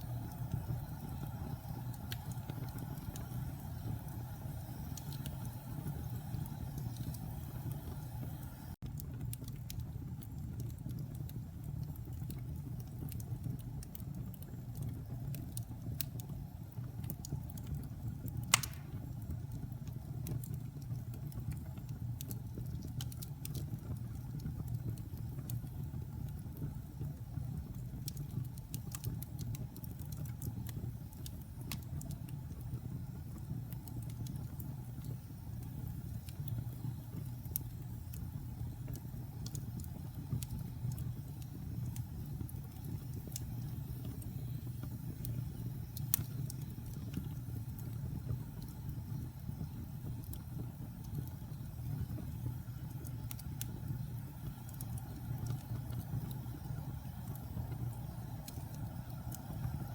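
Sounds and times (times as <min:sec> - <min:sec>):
fire crackling and popping: 0:00.0 - 0:59.9
wood fire burning: 0:00.0 - 0:59.9.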